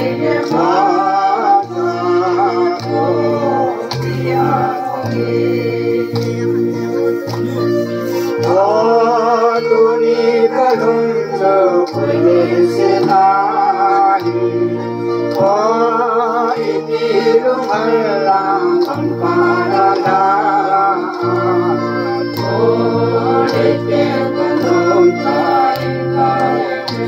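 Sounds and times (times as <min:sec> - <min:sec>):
women singing a hymn: 0:00.0 - 0:07.1, 0:08.4 - 0:27.0
electronic keyboard accompaniment: 0:00.0 - 0:27.0.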